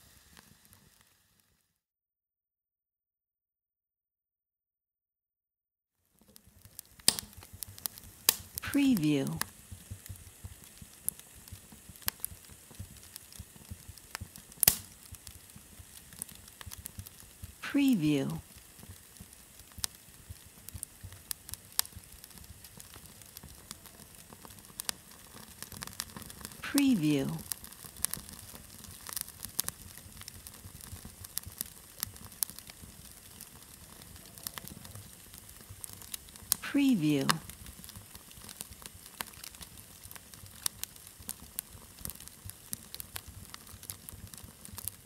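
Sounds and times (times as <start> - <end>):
low rumble of burning: 0.0 - 1.5, 6.0 - 8.6, 9.3 - 17.6, 18.4 - 26.6, 27.3 - 36.6, 37.3 - 45.0
wood fire crackling: 0.0 - 1.6, 6.0 - 45.0.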